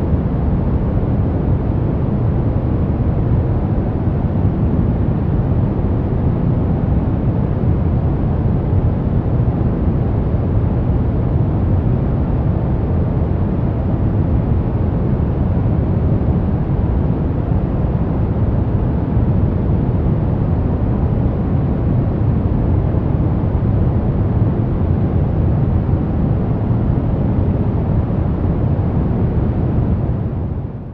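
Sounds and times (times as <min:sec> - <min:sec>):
deep rushing white noise: 0:00.0 - 0:30.9.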